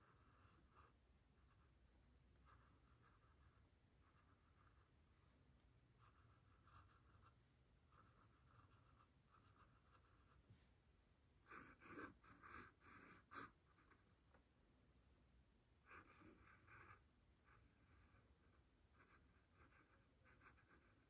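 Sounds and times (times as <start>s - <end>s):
pen nib scratching on paper: 0.0s - 5.4s, 6.0s - 10.5s, 11.5s - 14.1s, 15.9s - 21.0s.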